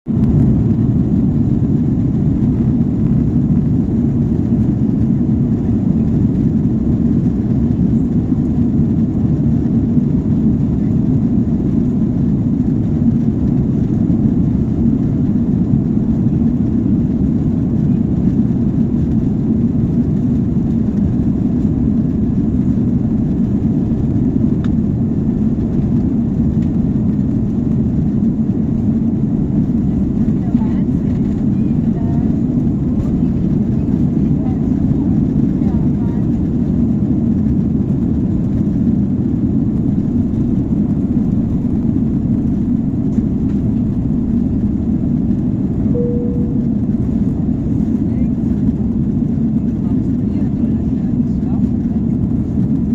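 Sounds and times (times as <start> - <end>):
aircraft engines rumbling: 0.0 - 52.9.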